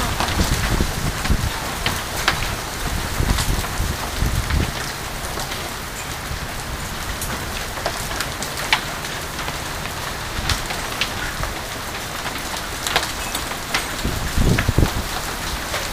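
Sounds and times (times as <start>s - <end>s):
hailstones ticking: 0.0s - 15.9s
heavy rain hissing: 0.0s - 15.9s.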